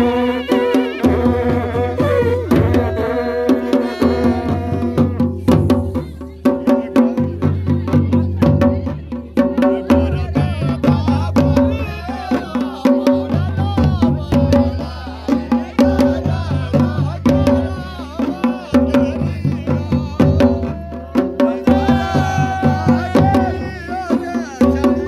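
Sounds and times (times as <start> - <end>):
drums beaten in fast rhythm: 0.0 - 25.0.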